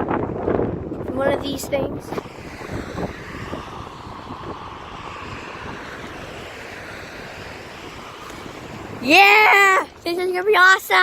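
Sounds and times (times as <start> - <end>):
distant engine rumble: 0.0 - 11.0.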